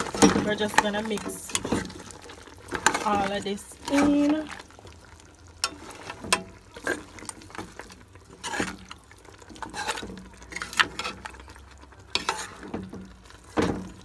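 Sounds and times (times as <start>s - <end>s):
utensil scraping a cooking pot: 0.0s - 14.0s.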